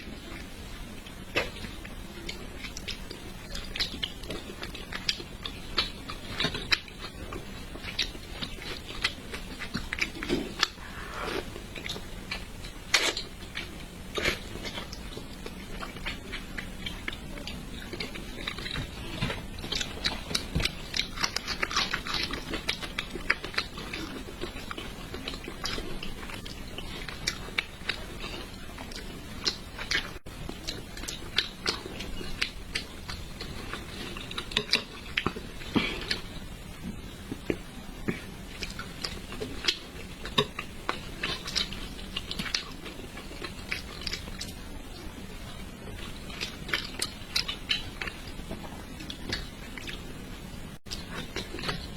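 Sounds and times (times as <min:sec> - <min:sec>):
wet chewing and mouth clicks: 0:00.0 - 0:50.2, 0:50.9 - 0:51.9.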